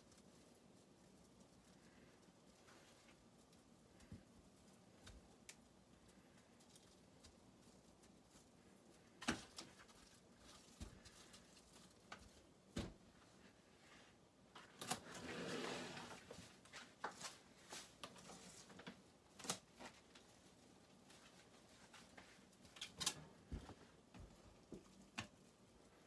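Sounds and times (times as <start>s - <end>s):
plastic wrap rustle: 0.0s - 26.0s.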